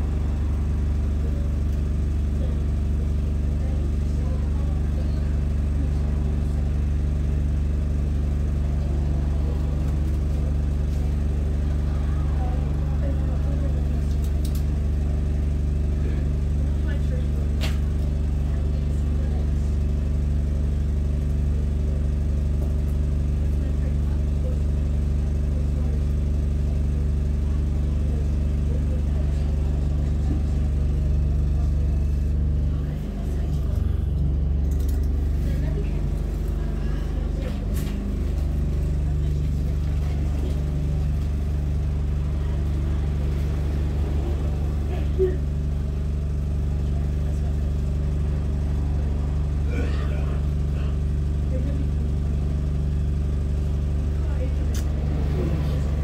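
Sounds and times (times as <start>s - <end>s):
bus engine idling: 0.0s - 56.0s.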